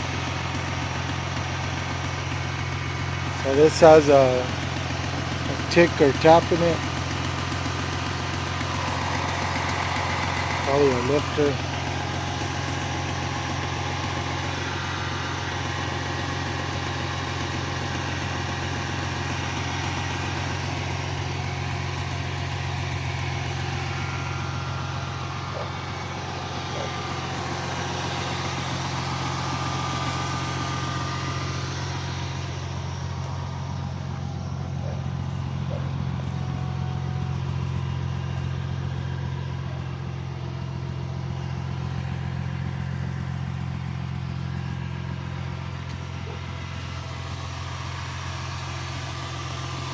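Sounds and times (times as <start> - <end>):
car engine idling with ticking: 0.0 - 49.9.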